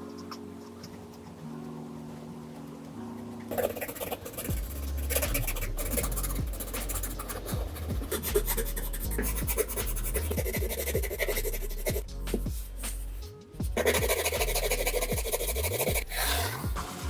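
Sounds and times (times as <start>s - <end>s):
quiet background music: 0.0s - 17.0s
paper rustling and rubbing: 2.6s - 16.5s.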